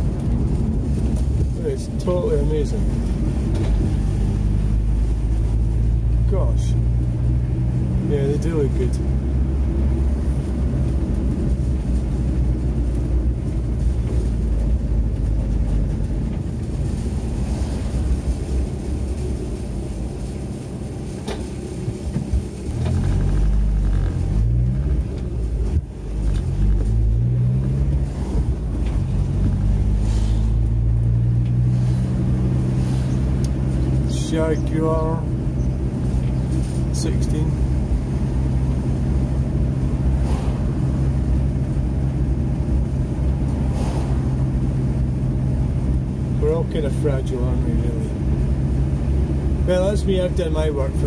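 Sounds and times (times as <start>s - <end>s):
road noise: 0.0s - 51.0s
van engine running: 0.0s - 51.0s.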